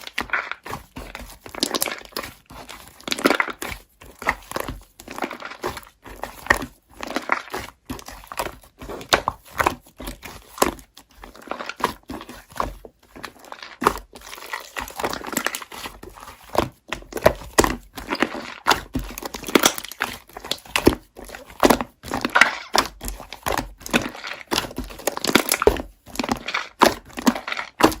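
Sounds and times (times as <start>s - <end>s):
slime crackling and popping: 0.0s - 12.5s, 13.3s - 28.0s.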